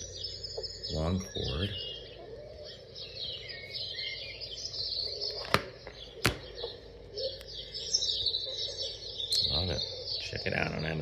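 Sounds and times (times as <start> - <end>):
birds chirping from small speaker: 0.0 - 11.0.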